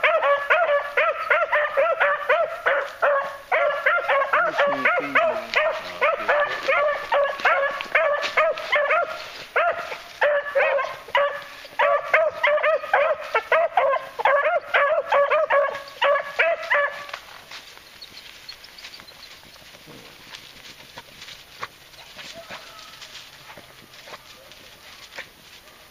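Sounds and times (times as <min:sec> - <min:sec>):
hounds yelping: 0:00.0 - 0:17.3, 0:18.0 - 0:25.9.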